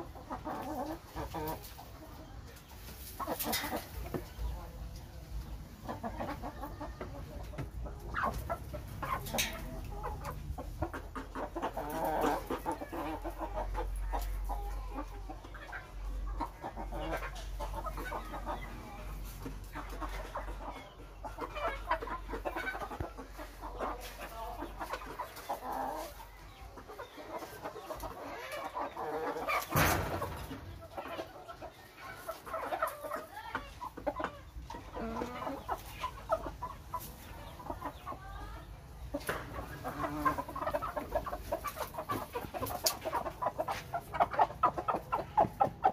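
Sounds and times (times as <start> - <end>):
chickens clucking: 0.0 - 45.9.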